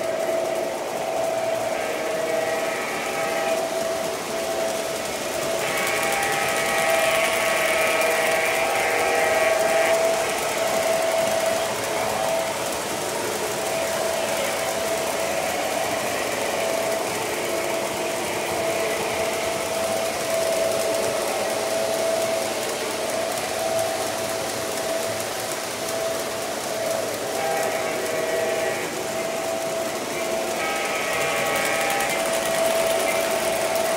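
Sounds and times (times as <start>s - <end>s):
model train motors whirring: 0.0s - 33.9s
locomotive horn: 0.1s - 25.0s, 26.8s - 33.9s.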